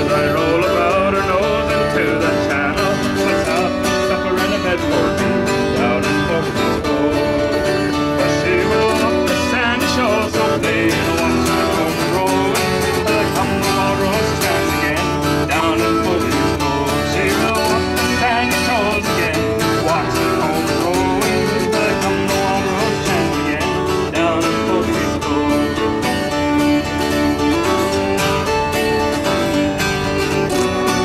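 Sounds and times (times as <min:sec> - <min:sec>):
acoustic guitar strumming: 0:00.0 - 0:31.0
fiddle playing folk tune: 0:00.0 - 0:31.0.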